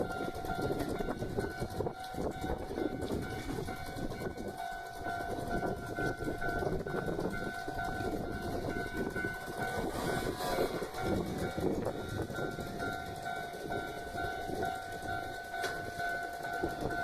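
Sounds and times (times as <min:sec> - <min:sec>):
level-crossing warning bell: 0:00.0 - 0:17.0
train rumbling past: 0:00.0 - 0:17.0.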